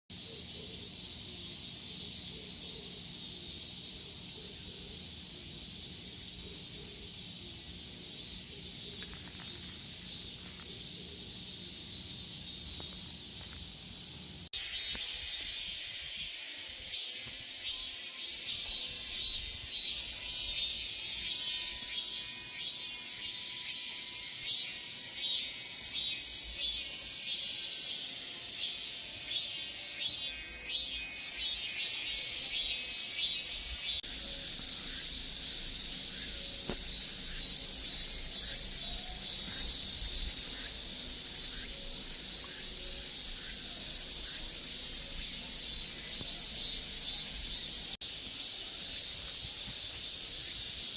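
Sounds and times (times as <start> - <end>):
cicadas buzzing: 0.1 - 50.9.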